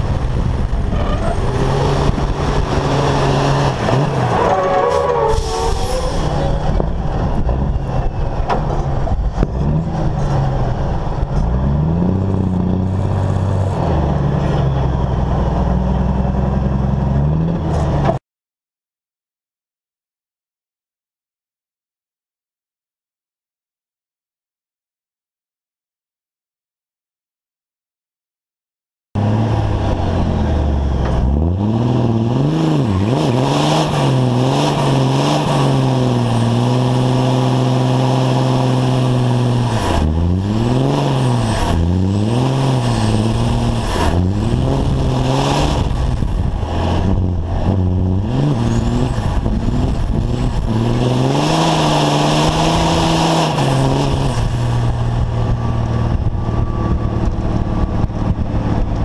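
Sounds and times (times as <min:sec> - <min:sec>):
diesel truck engine revving: 0:00.0 - 0:18.2, 0:29.2 - 0:59.0.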